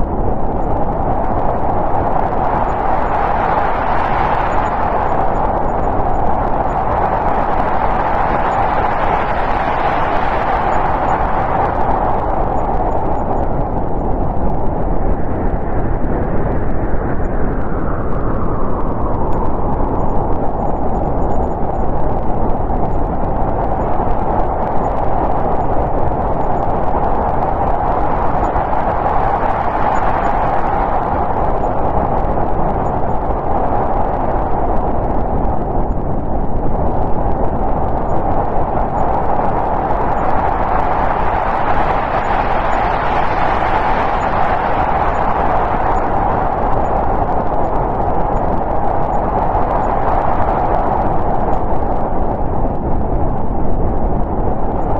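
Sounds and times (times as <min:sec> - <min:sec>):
snowstorm wind blowing: 0:00.0 - 0:54.9.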